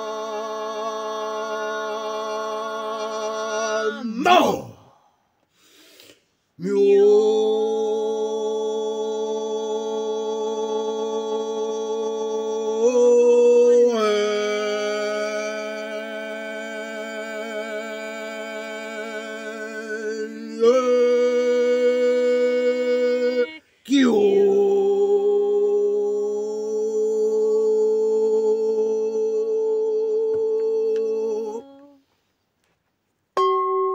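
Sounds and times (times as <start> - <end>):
hummed vocal drone: 0.0 - 4.7, 6.6 - 32.0.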